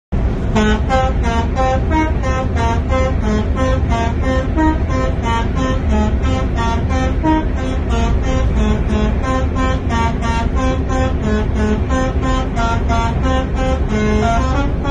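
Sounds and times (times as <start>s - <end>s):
low engine rumble: 0.1s - 14.9s
musical vehicle horn melody: 0.2s - 14.9s.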